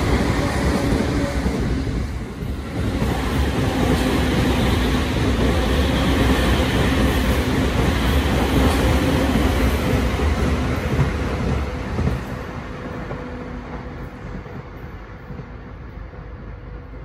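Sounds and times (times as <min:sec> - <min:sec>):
electric train rumbling on rails: 0:00.0 - 0:17.0.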